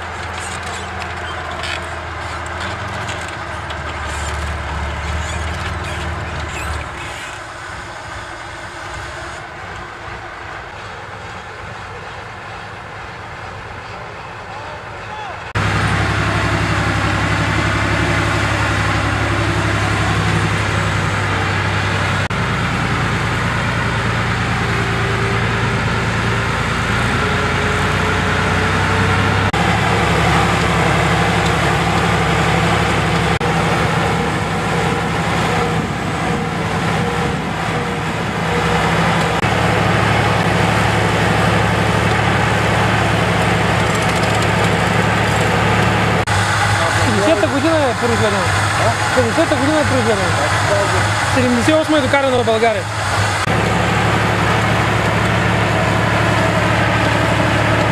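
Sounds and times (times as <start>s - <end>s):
dozer engine running under load: 0.0s - 57.9s.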